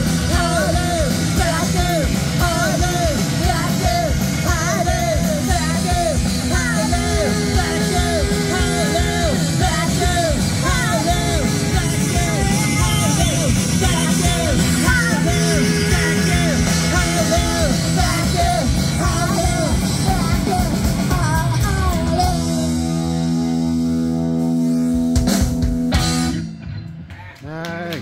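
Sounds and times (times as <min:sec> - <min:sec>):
person singing: 0:00.0 - 0:24.2
drum kit: 0:00.0 - 0:28.0
electric guitar: 0:00.0 - 0:28.0.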